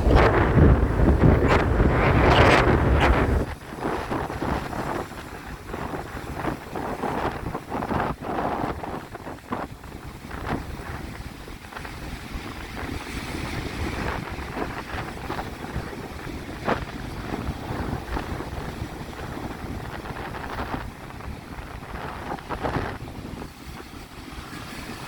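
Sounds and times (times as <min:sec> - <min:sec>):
sea waves breaking: 0:00.0 - 0:25.0
wind buffeting microphone: 0:00.0 - 0:25.0.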